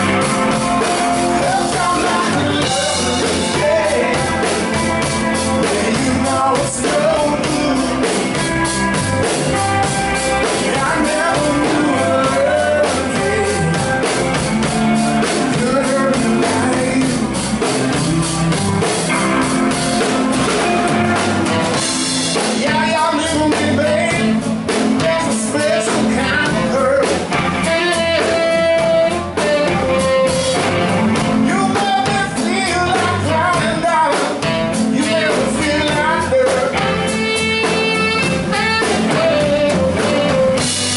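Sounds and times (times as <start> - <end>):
drum kit: 0.0 - 40.9
electric bass: 0.0 - 40.9
electric guitar: 0.0 - 40.9.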